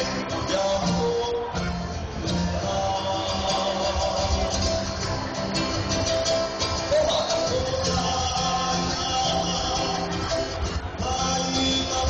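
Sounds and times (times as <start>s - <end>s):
plucked upright bass: 0.0s - 12.0s
strummed guitars and ukuleles: 0.0s - 12.0s.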